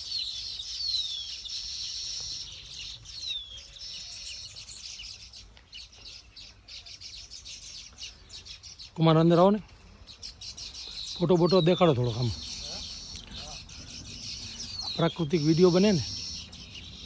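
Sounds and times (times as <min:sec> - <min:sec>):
birds chattering with high chirps: 0:00.0 - 0:17.0.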